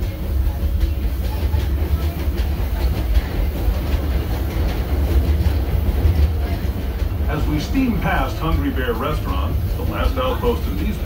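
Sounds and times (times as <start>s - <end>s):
train car rumbling: 0.0s - 11.0s
train wheels clicking: 0.0s - 11.0s.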